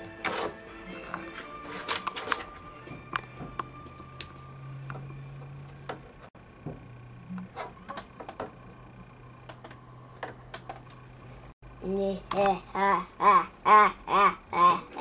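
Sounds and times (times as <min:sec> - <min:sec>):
steady low hum: 0:00.7 - 0:15.0.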